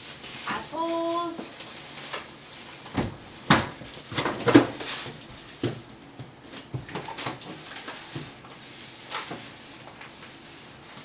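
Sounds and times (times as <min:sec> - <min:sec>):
produce and containers clattering: 0:00.4 - 0:10.2.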